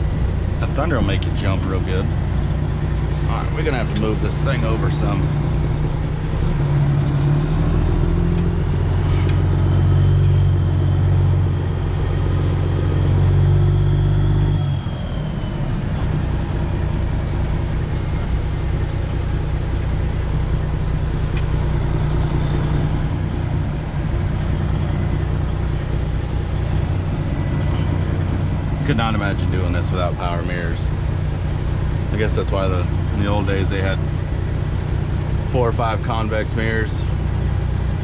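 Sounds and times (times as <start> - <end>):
truck diesel engine revving and idling: 0.0 - 38.0.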